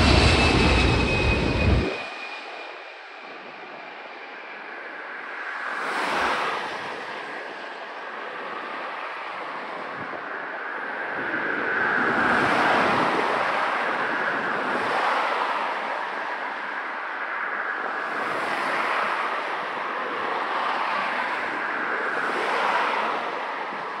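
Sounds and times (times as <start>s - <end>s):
distant jet engines rushing: 0.0s - 24.0s.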